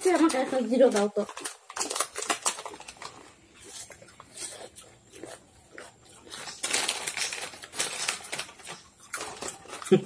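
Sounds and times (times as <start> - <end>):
chips crunching: 0.0 - 10.0
plastic packets crinkling: 0.0 - 10.0.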